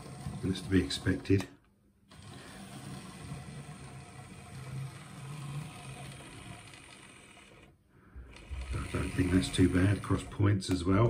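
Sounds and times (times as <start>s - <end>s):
model train motor whirring: 0.0s - 1.5s, 2.1s - 11.0s.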